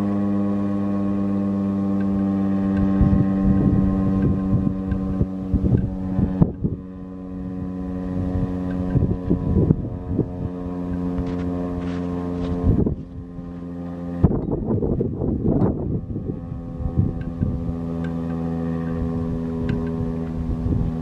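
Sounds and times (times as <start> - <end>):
low siren tone: 0.0 - 21.0
wind buffeting microphone: 2.1 - 21.0.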